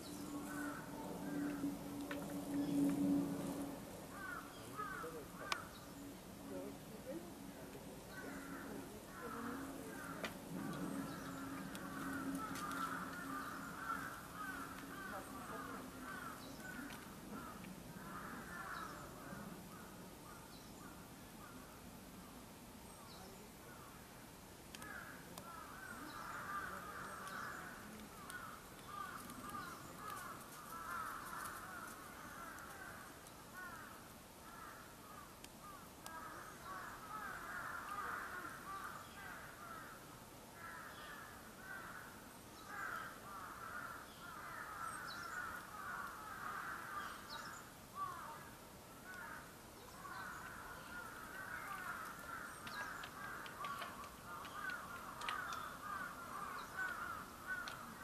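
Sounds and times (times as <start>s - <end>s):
many birds calling: 0.0s - 21.7s, 24.8s - 40.0s, 40.6s - 58.0s.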